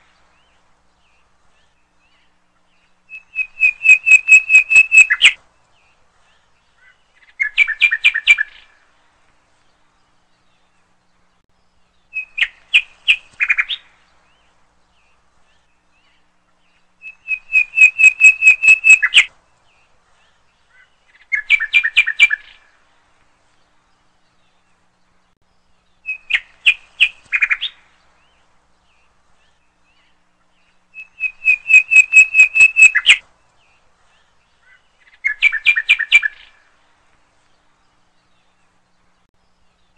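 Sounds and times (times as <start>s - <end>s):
bird song with trills: 0.0s - 39.9s.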